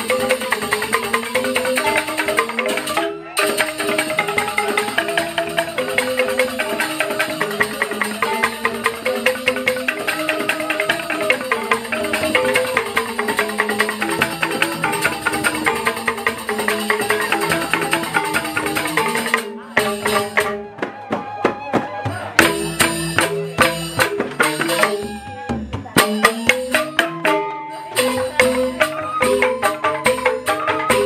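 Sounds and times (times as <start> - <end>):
bamboo xylophone gamelan music: 0.0 - 31.0.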